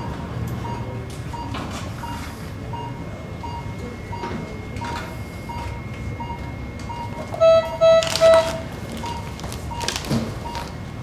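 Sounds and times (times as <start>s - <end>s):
patient monitor beeping: 0.0s - 11.0s.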